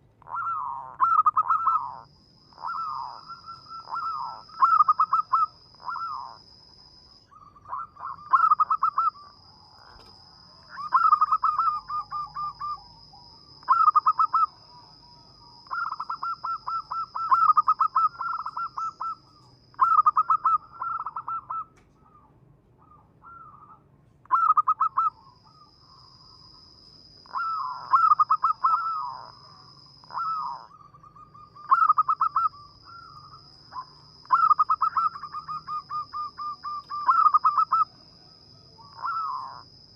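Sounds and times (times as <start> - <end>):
dove cooing: 0.0 - 6.5, 7.3 - 26.0, 27.3 - 39.7
faint high-pitched whine: 0.0 - 39.9.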